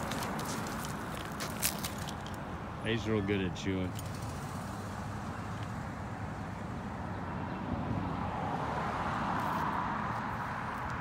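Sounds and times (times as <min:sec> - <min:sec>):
road traffic noise: 0:00.0 - 0:11.0
vehicle passing: 0:00.0 - 0:11.0.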